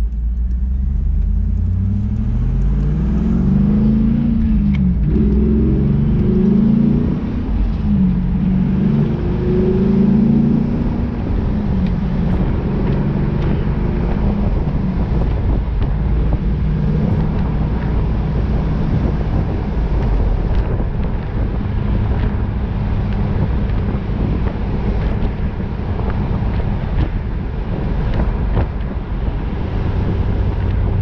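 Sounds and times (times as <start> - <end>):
car engine running: 0.0 - 31.0
road and wind noise: 0.0 - 31.0.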